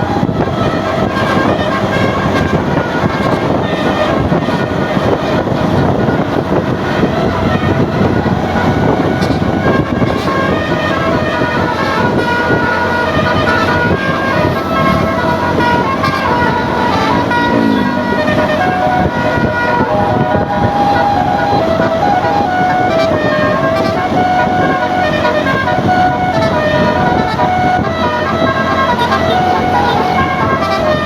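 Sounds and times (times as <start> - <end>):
bus air horn melody: 0.0 - 31.0
engine and road rumble: 0.0 - 31.0.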